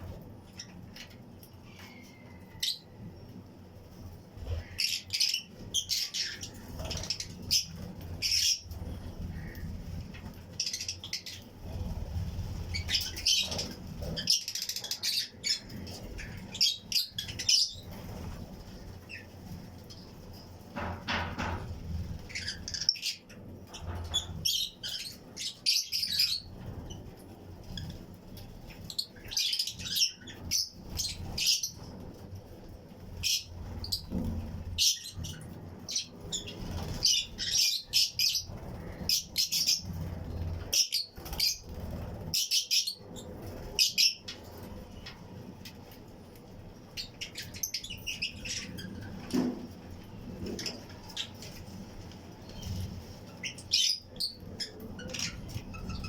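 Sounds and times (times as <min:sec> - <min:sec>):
lovebirds chirping: 0:04.4 - 0:45.0, 0:46.8 - 0:49.4, 0:50.2 - 0:56.0.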